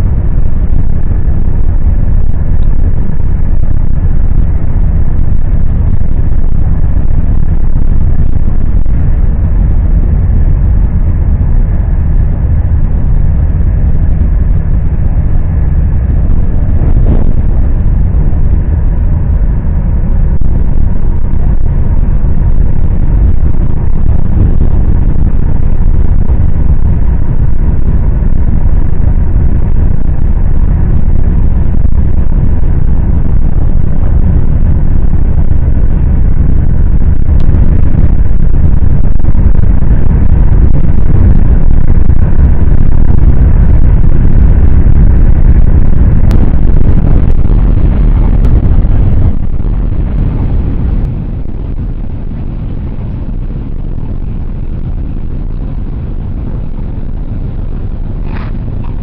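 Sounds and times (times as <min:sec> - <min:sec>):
train rumbling on rails: 0:00.0 - 0:55.3, 0:56.0 - 0:59.0.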